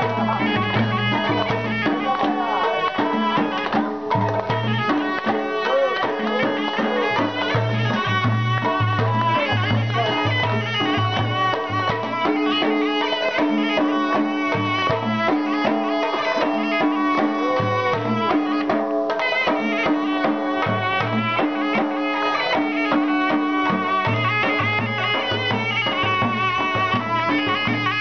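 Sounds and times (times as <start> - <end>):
dhol drum beating: 0.0 - 28.0.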